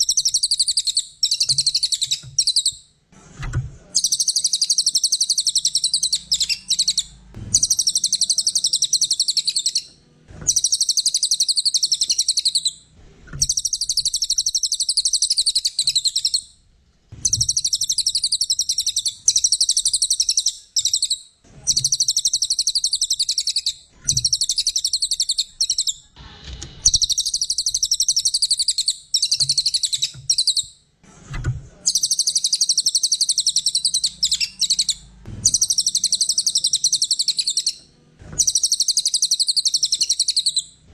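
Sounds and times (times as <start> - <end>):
songbird chattering song: 0.0 - 2.8, 4.0 - 9.9, 10.5 - 12.8, 13.4 - 16.5, 17.2 - 26.1, 26.9 - 30.7, 31.9 - 37.8, 38.4 - 40.8.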